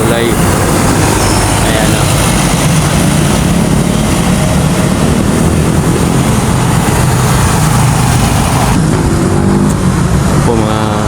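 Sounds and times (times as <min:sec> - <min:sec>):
low engine hum: 0:00.0 - 0:11.0
road and wind noise hiss: 0:00.0 - 0:11.0.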